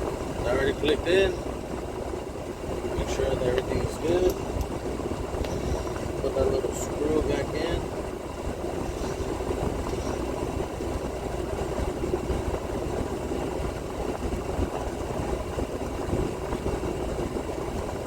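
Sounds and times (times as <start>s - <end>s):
diesel truck engine idling: 0.0s - 17.7s.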